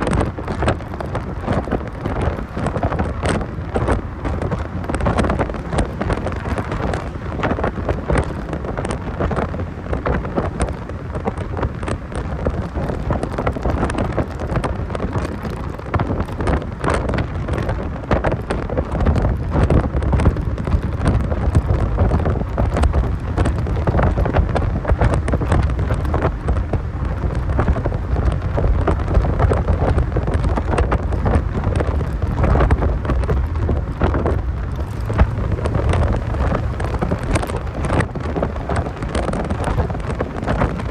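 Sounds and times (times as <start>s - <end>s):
car engine rumble: 0.0s - 40.9s
wind buffeting microphone: 0.0s - 40.9s.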